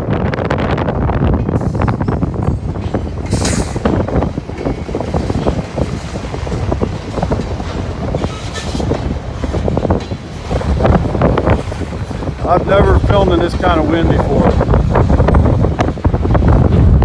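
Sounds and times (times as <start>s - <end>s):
wind buffeting microphone: 0.0s - 17.0s
train wheels clattering on rails: 1.2s - 17.0s.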